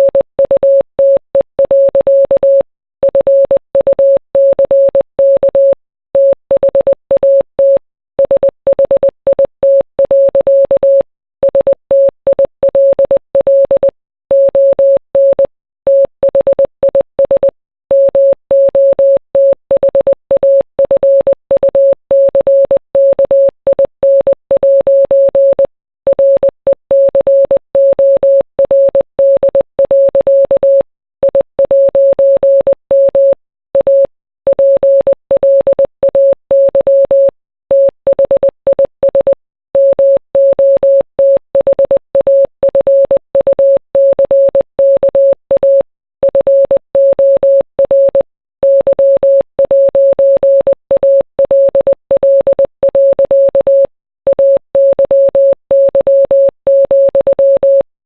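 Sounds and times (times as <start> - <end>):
morse code beeps: 0.0 - 57.9.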